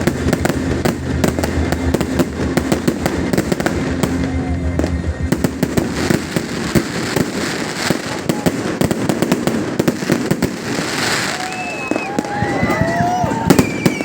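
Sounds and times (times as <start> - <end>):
fireworks crackling and banging: 0.0 - 14.0.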